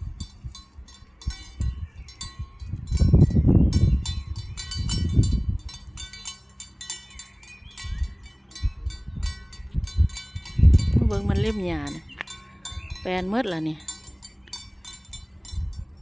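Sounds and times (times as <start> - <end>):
livestock bells clanking: 0.0 - 16.0
low rumble: 0.0 - 16.0.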